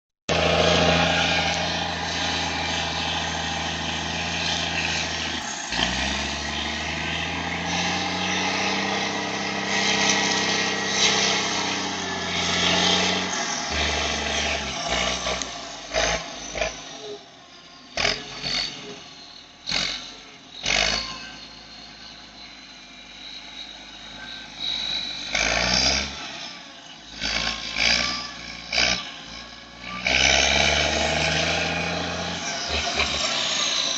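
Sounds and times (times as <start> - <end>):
diesel engine revving: 0.3 - 33.9
turbo whistling: 0.3 - 33.9.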